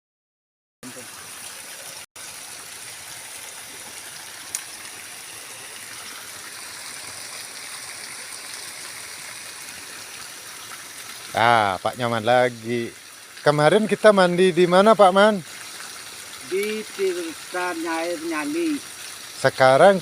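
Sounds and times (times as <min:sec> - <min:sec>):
stream water rushing: 0:00.8 - 0:20.0.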